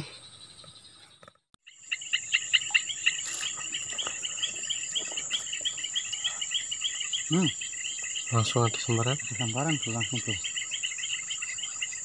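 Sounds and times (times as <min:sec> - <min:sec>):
insects buzzing: 0:00.0 - 0:12.0
insects chirping: 0:00.0 - 0:12.0.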